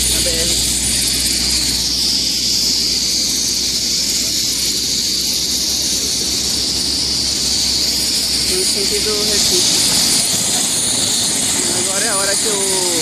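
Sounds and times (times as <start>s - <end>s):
helicopter engine and rotor running: 0.0s - 13.0s.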